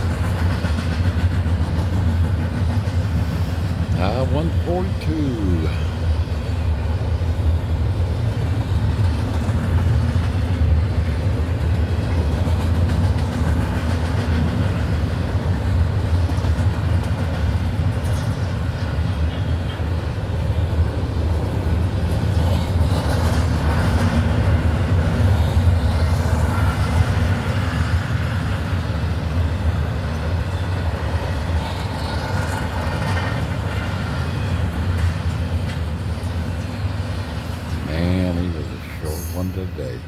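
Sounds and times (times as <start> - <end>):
freight train wheels rumbling: 0.0 - 40.0.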